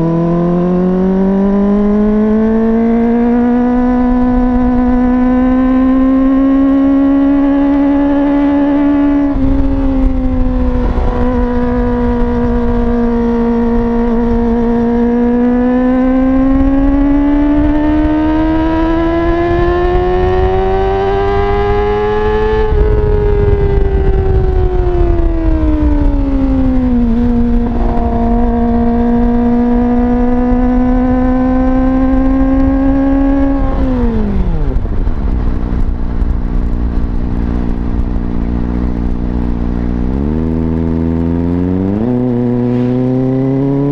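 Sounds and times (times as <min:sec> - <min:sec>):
motorcycle engine revving high: 0:00.0 - 0:43.9.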